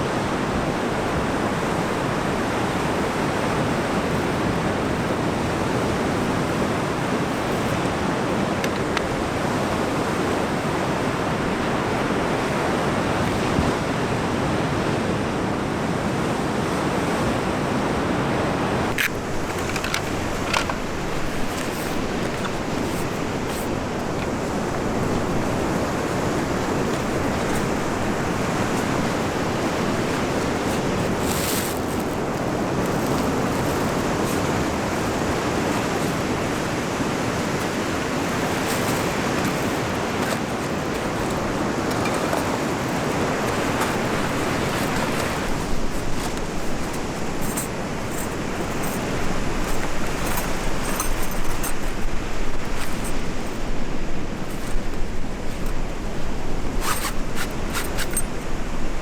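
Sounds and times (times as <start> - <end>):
sea surf washing on shore: 0.0 - 14.4, 16.8 - 59.0
wind: 0.0 - 59.0.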